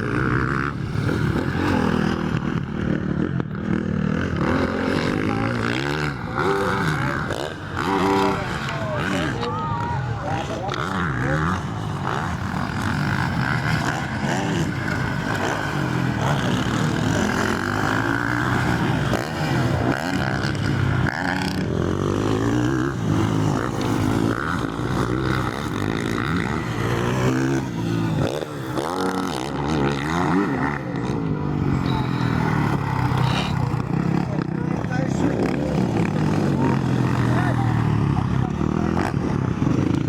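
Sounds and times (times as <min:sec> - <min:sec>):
motocross bike engines revving: 0:00.0 - 0:40.0.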